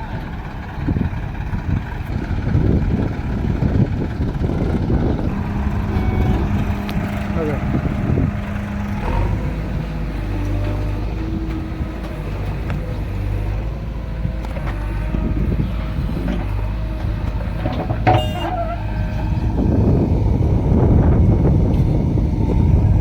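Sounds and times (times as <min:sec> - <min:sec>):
diesel engines droning: 0:00.0 - 0:23.0.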